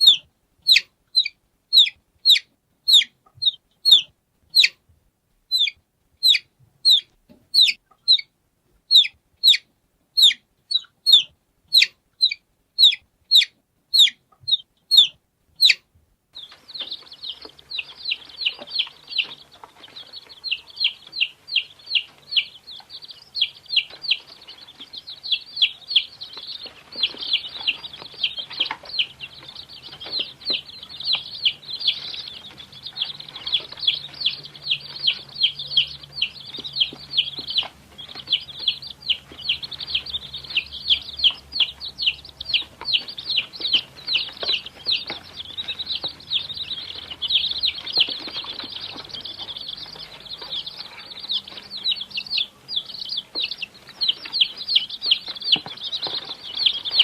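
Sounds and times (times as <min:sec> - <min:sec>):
chicks peeping: 0:00.0 - 0:04.9, 0:05.5 - 0:57.0.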